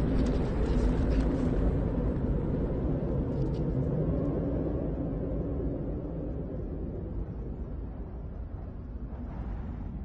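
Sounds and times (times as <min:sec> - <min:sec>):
low rumbling ambience: 0:00.0 - 0:10.0.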